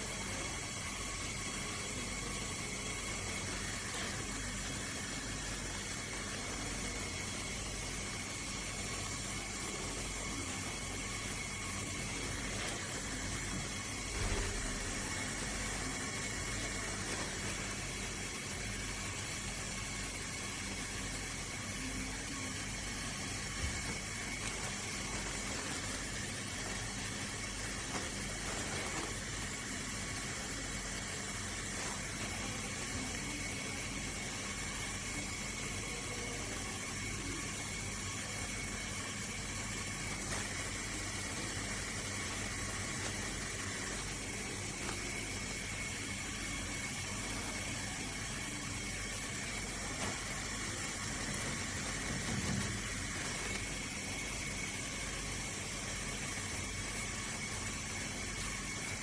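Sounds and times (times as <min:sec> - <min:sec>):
faint constant hum: 0:00.0 - 0:59.0
steady hiss: 0:00.0 - 0:59.0.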